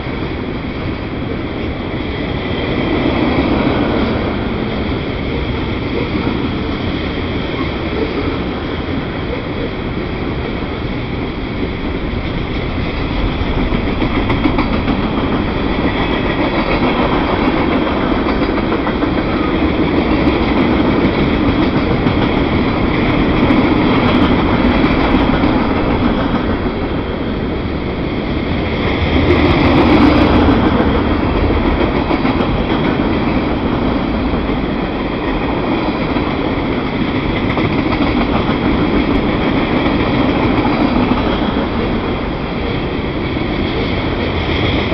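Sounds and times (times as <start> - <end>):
freight train wheels rumbling on rail: 0.0 - 44.9.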